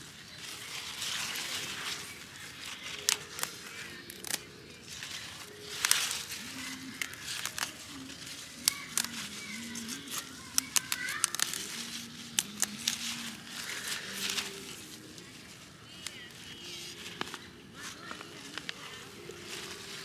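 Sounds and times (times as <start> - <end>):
leaves rustling and crackling: 0.0 - 20.0.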